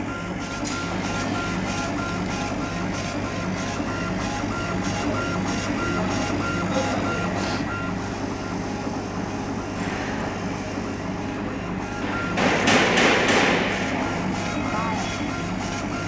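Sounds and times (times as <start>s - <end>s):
stepper motors whirring: 0.0s - 8.6s, 11.7s - 16.0s
machine humming: 0.0s - 16.0s.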